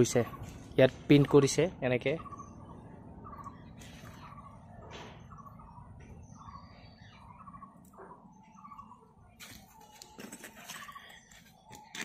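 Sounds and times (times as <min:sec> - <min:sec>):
bird trilling: 0:02.1 - 0:12.0
faint bird chirps: 0:02.1 - 0:12.0.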